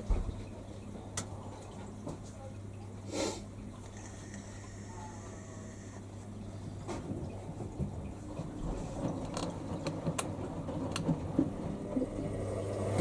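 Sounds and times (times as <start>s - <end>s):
washing machines humming: 0.0s - 13.0s.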